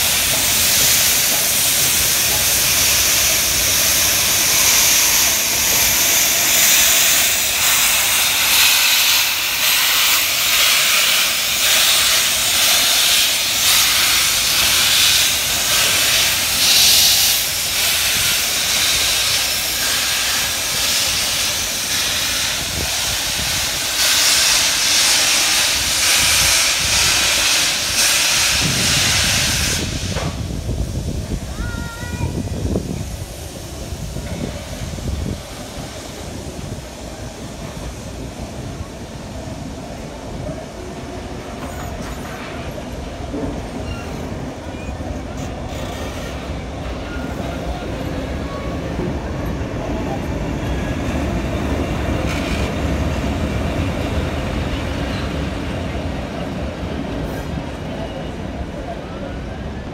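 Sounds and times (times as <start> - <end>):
steam hissing: 0.0 - 58.8.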